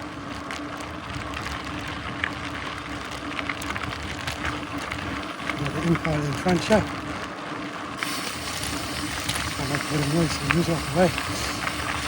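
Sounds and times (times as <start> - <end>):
bike tyre and wind noise: 0.0 - 12.0
faint steady hum: 0.0 - 12.0
small ticks and rattles: 0.0 - 12.0.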